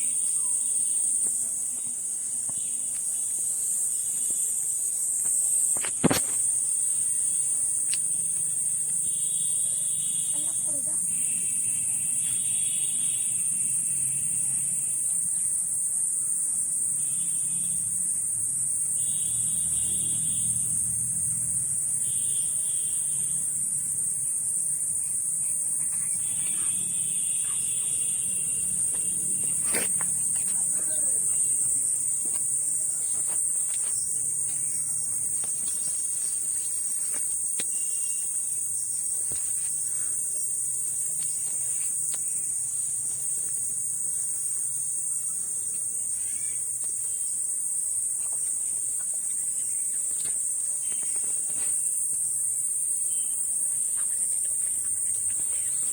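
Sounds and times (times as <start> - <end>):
cicadas buzzing: 0.0 - 55.9.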